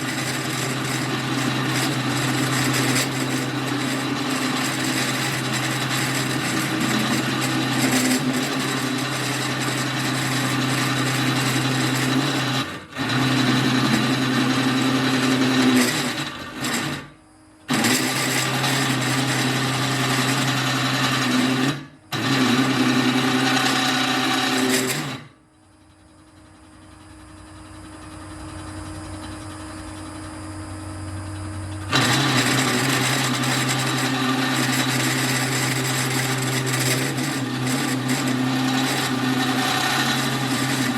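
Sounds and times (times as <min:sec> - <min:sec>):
cutter boring through metal: 0:00.0 - 0:25.4, 0:31.2 - 0:40.9
drill press motor hum: 0:00.0 - 0:40.9.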